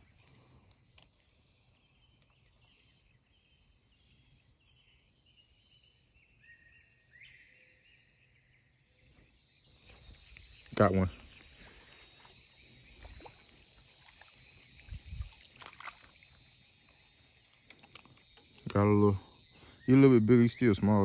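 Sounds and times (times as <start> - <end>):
faint high-pitched wildlife calls: 0.0 - 21.0.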